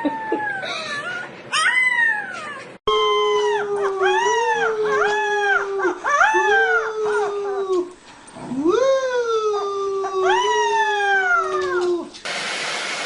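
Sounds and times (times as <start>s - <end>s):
dog howling: 0.0s - 7.9s, 8.5s - 12.1s.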